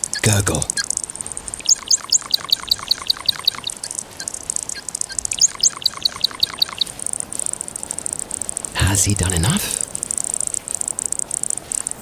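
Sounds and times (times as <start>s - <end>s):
bird gurgling courtship call: 0.0s - 12.0s.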